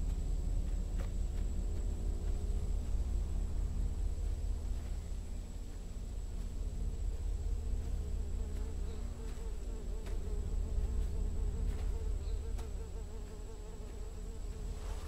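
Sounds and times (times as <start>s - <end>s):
low rumble: 0.0s - 12.8s
insects buzzing: 0.0s - 15.0s.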